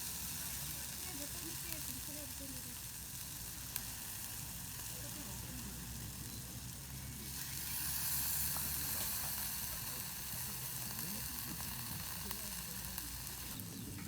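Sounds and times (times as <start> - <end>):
food sizzling in frying: 0.0 - 14.0.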